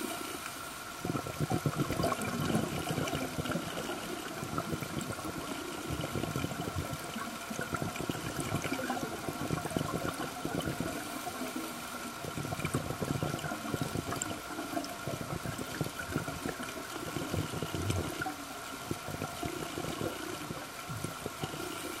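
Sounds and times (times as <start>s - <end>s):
underwater rush of moving water: 0.0s - 22.0s.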